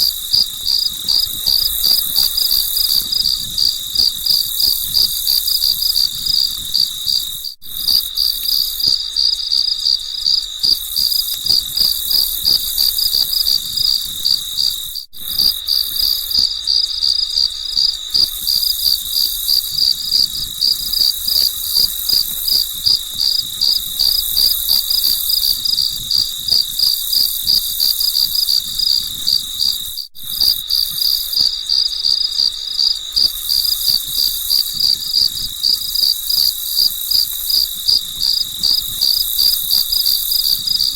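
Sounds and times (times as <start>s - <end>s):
crickets chirping: 0.0s - 40.9s
faint insect hiss: 0.0s - 40.9s.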